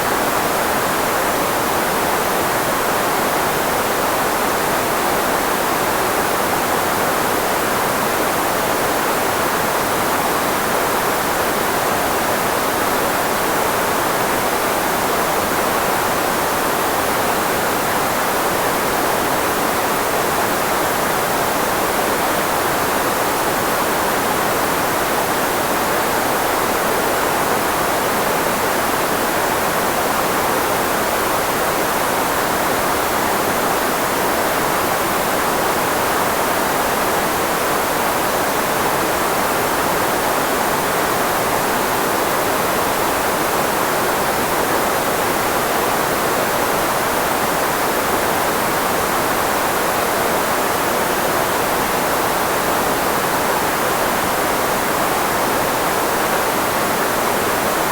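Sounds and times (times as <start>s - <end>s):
filtered white noise hiss: 0.0s - 57.9s.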